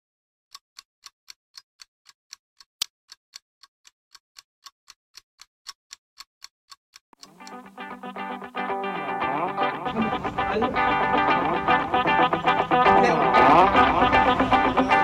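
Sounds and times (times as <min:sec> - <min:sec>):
clock-like ticking: 0:00.5 - 0:15.0.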